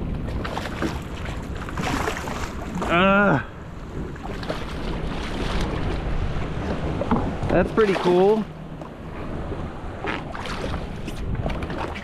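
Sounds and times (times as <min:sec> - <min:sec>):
choppy sea water: 0:00.0 - 0:12.0
wind buffeting microphone: 0:00.0 - 0:12.0.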